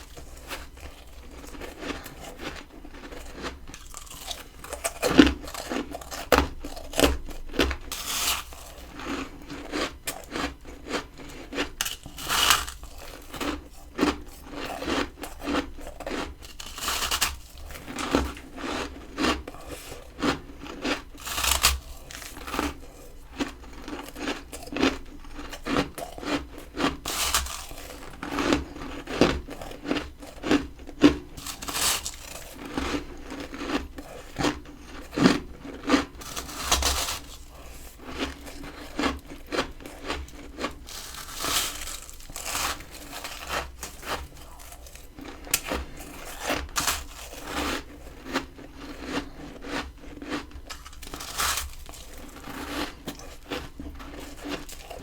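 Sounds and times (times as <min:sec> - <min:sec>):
frost crunching while chewed: 0:00.0 - 0:55.0.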